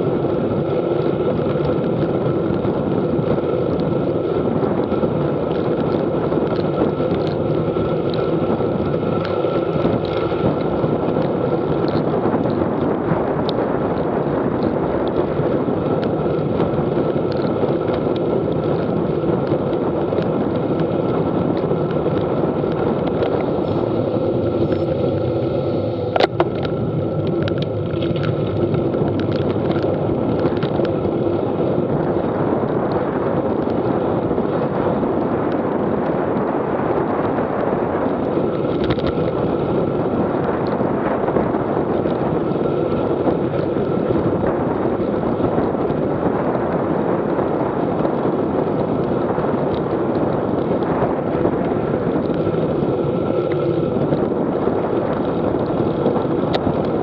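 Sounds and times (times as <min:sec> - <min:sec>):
tyres on wet pavement: 0:00.0 - 0:57.0
wind buffeting microphone: 0:00.0 - 0:57.0.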